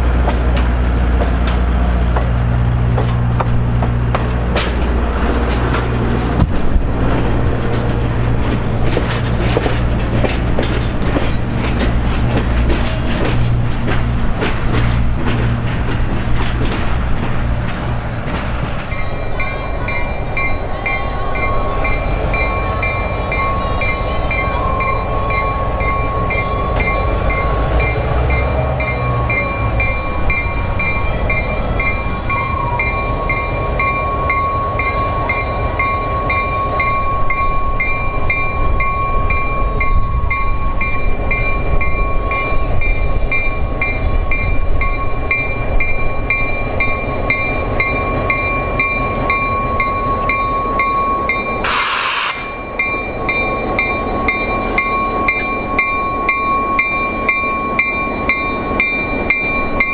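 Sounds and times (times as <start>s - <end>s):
train rumbling past on rails: 0.0s - 59.9s.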